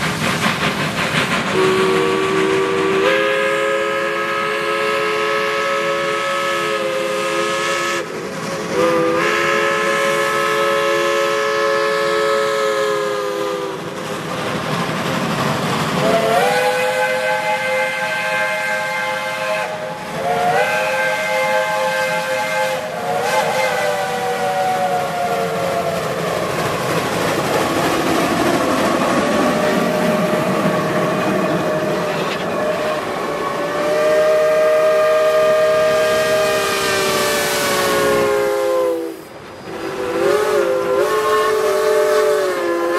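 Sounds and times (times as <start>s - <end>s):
steam hissing: 0.0s - 42.9s
steam locomotive chime whistles: 1.5s - 13.9s, 16.0s - 26.4s, 29.4s - 42.9s.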